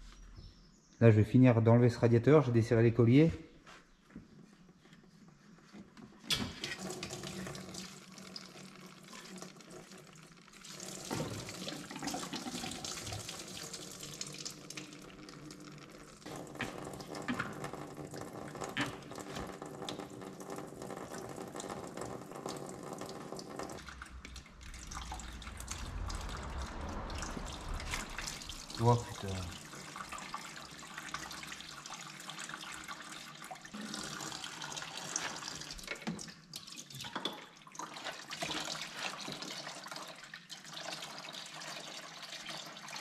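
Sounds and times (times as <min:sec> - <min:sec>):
coolant splashing out: 0:06.3 - 0:41.3.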